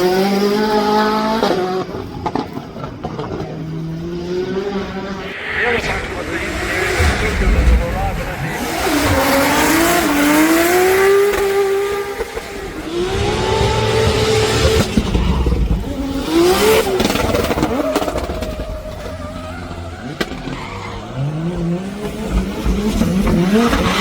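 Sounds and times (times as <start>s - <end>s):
car engine revving hard: 0.0s - 24.0s.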